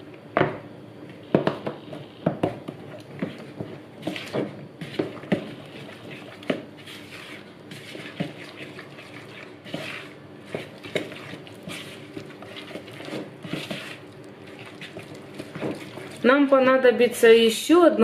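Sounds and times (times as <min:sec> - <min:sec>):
spoon stirring dough: 0:01.9 - 0:16.3.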